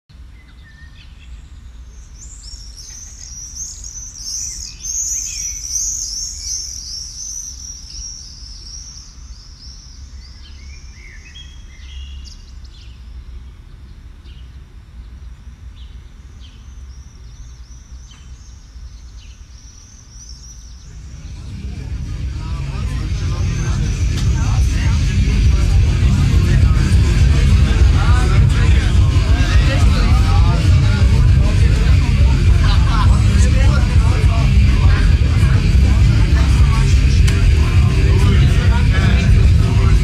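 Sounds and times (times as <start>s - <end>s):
high rapid bird chirping: 0.4s - 40.0s
steady low rumble: 7.3s - 40.0s.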